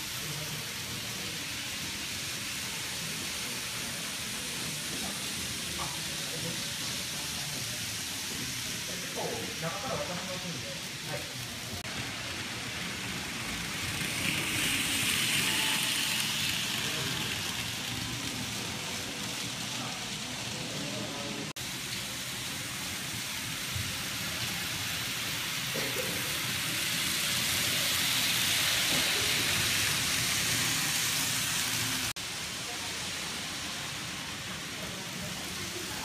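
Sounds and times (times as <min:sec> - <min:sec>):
model trains hissing on track: 0:00.0 - 0:36.0
faint chatter: 0:00.1 - 0:21.5, 0:24.1 - 0:36.0.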